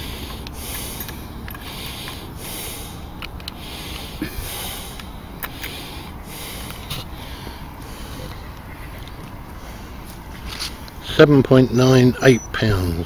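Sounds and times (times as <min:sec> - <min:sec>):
soft pulsing hiss: 0:00.0 - 0:13.0.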